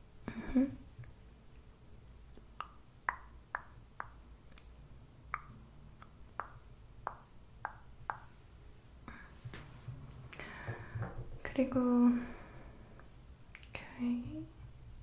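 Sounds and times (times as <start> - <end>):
faint low room hum: 0.0 - 15.0.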